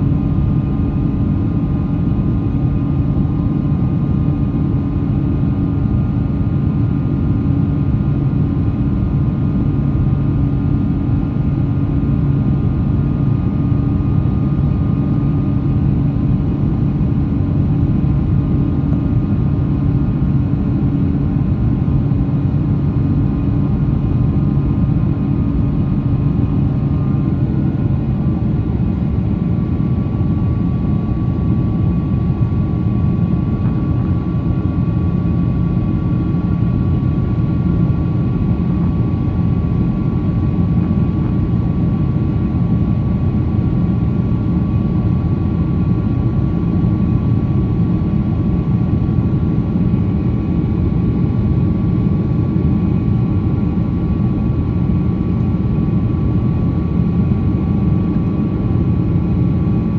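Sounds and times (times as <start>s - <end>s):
aircraft cabin engine rumble: 0.0s - 59.9s.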